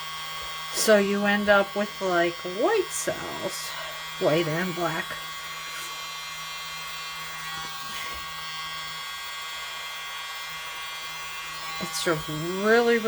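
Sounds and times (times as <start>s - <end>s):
electric hum: 0.0s - 13.0s.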